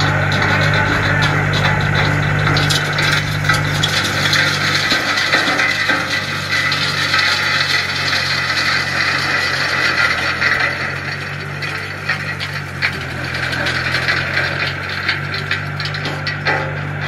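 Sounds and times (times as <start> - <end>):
rototiller grinding gravel: 0.0 - 17.0
tractor engine hum: 0.0 - 17.0.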